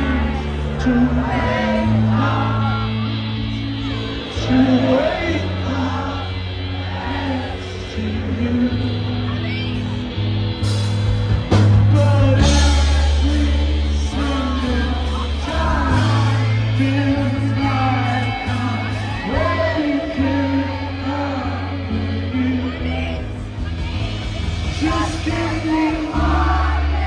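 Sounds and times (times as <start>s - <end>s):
sung vocal: 0.0s - 10.2s, 11.6s - 27.0s
live rock band: 0.0s - 27.0s.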